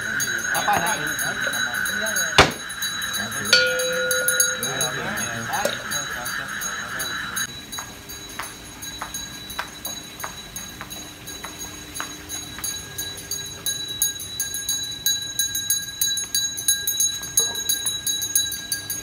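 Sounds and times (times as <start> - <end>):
small metal bells jingling: 0.0 - 19.0.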